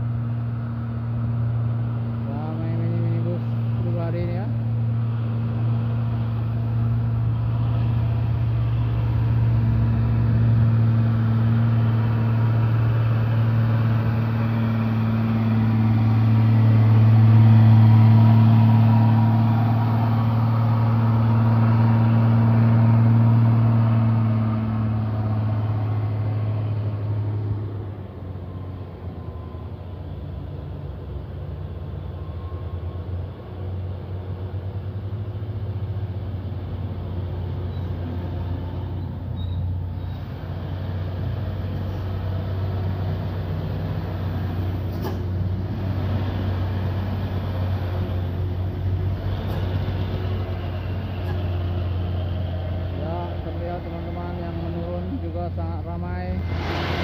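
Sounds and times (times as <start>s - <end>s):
truck diesel engine labouring: 0.0s - 57.0s.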